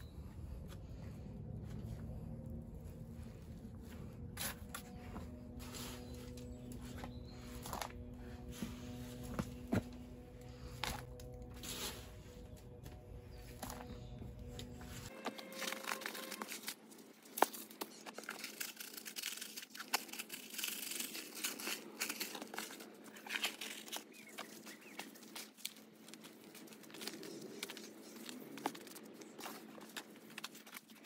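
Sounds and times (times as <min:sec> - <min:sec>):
dry rustling and crackling: 0:03.2 - 0:31.0.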